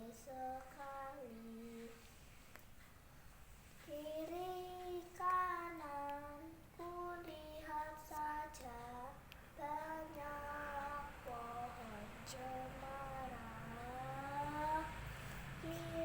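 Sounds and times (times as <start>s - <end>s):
child singing: 0.0s - 2.1s, 3.8s - 16.0s.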